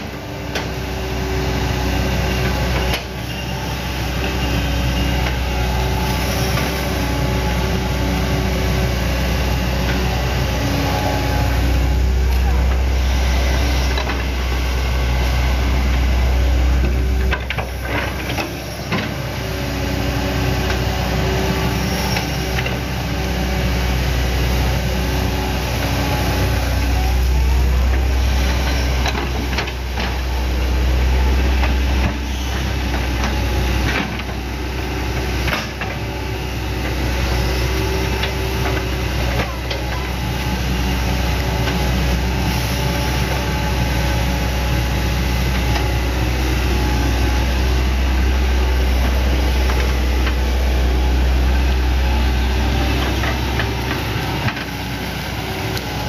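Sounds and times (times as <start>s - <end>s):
excavator diesel engine under load: 0.0s - 56.0s
hydraulics working: 0.0s - 56.0s.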